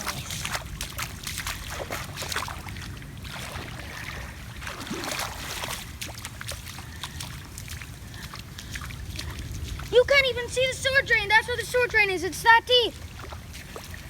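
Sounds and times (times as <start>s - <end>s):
floodwater splashing: 0.0s - 14.0s.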